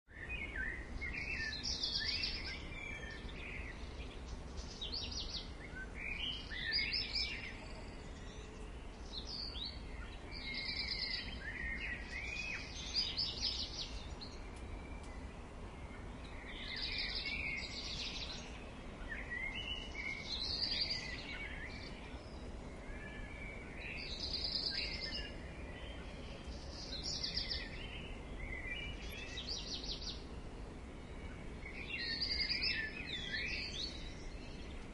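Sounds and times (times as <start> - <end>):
songbirds trilling and chirping: 0.1 - 34.9.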